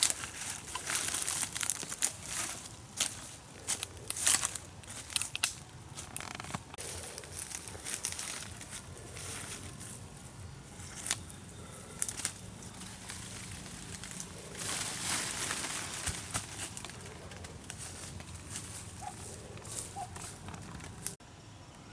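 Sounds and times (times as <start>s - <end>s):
crinkling rustling handling noise: 0.0s - 21.2s.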